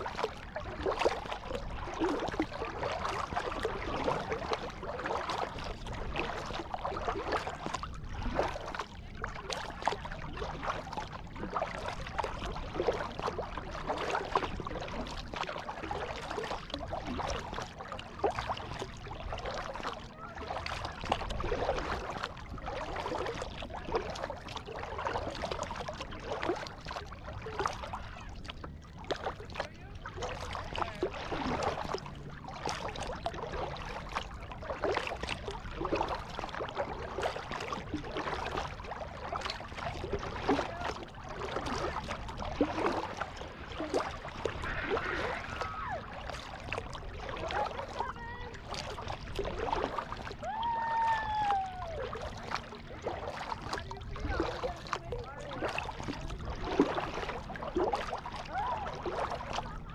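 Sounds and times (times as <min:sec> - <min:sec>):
paddle splashing water: 0:00.0 - 0:59.9
water lapping against hull: 0:00.0 - 0:59.9.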